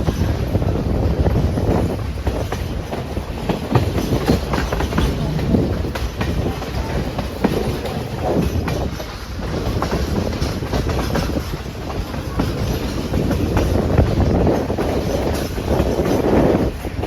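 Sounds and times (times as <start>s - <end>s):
train rumble: 0.0s - 17.0s
wheels clacking over rail joints: 0.0s - 17.0s.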